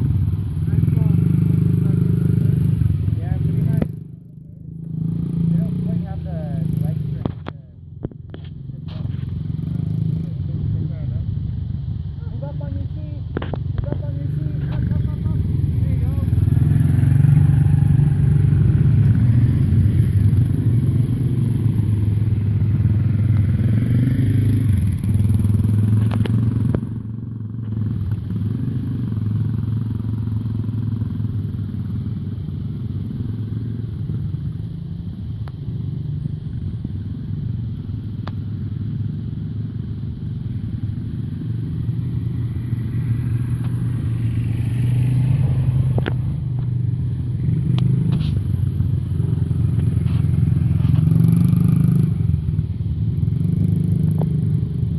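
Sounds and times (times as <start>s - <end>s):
dirt bike engines running: 0.0s - 54.9s.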